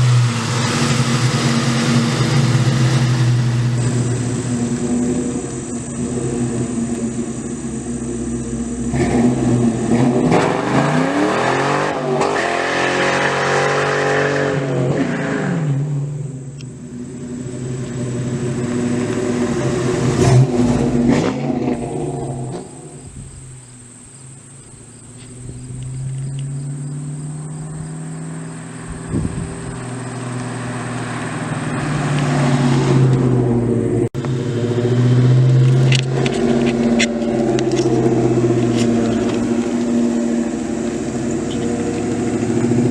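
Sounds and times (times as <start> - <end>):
vee eight engine revving: 0.0 - 42.9.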